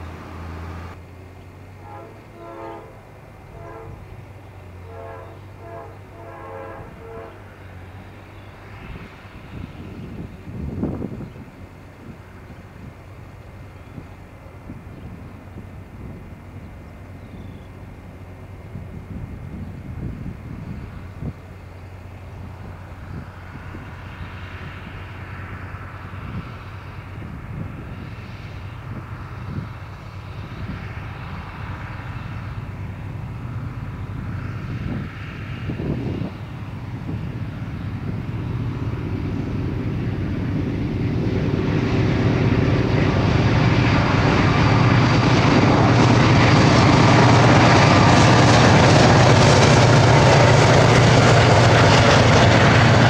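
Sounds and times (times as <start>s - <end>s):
diesel locomotive engine drone: 0.0s - 53.0s
freight train passing: 0.0s - 53.0s.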